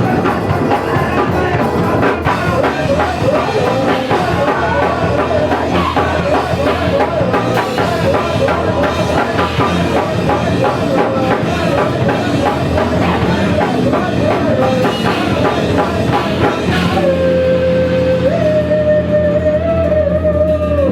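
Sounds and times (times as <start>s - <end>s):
fast rock music: 0.0s - 20.9s.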